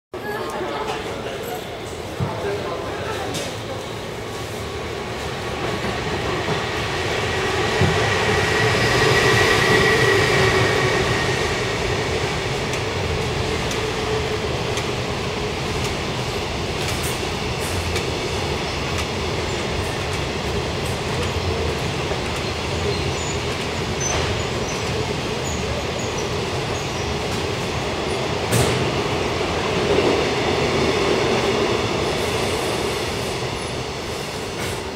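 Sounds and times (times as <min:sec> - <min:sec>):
electric locomotive passing: 0:00.2 - 0:34.9.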